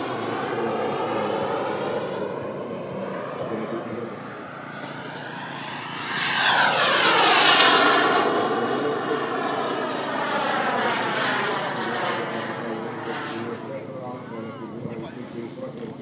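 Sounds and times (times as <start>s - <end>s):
model jet turbine whining: 0.0s - 16.0s.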